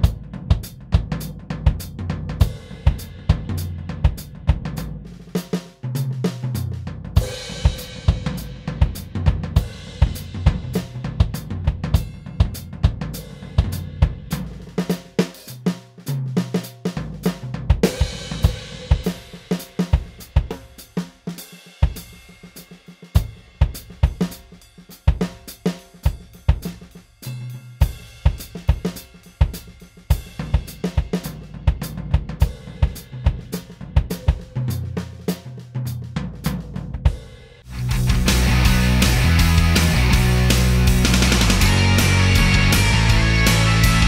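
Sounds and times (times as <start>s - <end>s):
electronic drum kit groove: 0.0s - 44.0s.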